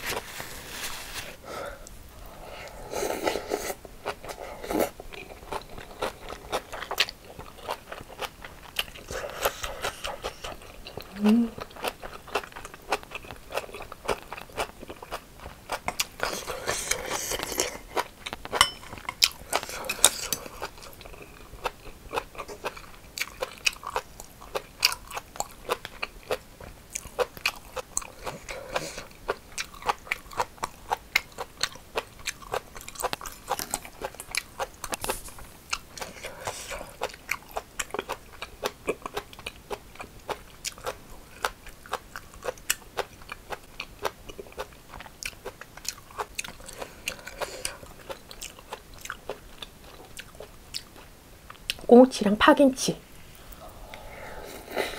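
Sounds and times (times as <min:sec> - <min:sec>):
crunchy chewing: 0:04.0 - 0:51.8.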